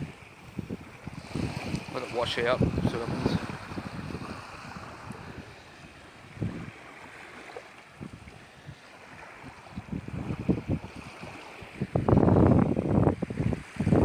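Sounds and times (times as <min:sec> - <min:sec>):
shallow water washing over sand: 0:00.0 - 0:14.0
wind buffeting microphone: 0:00.0 - 0:14.0.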